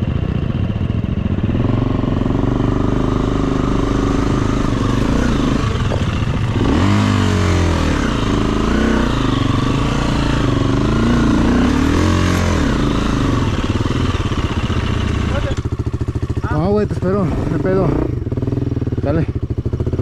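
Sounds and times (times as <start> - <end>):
dirt bike engine revving: 1.3 - 20.0.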